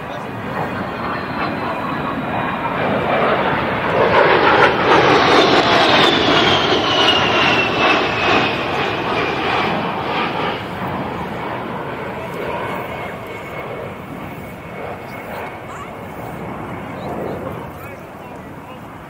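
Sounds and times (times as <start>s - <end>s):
high jet whine: 0.0s - 19.0s
jet engine roar: 0.0s - 19.0s.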